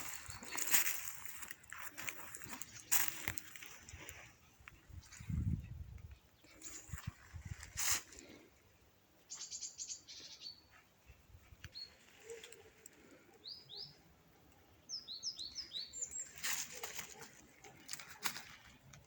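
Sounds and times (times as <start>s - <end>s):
small songbirds chirping: 0.0s - 18.9s.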